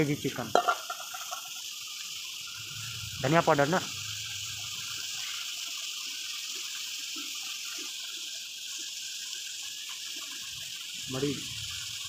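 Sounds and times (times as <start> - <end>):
chicken and onions sizzling in oil: 0.0 - 12.0.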